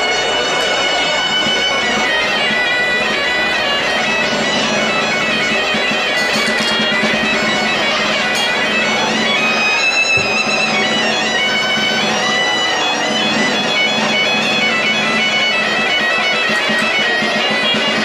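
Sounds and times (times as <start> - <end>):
bagpipe melody over drone: 0.0 - 18.0.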